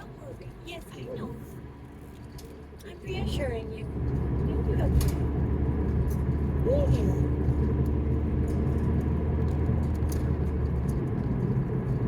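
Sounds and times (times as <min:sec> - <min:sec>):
car interior road noise: 0:00.0 - 0:12.0.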